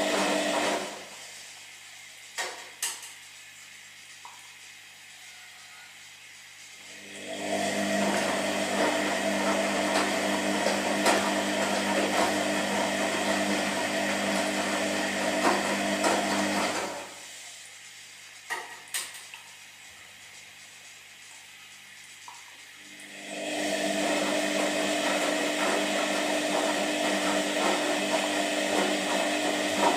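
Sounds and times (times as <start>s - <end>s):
washing machine drum whirring: 0.0s - 29.9s.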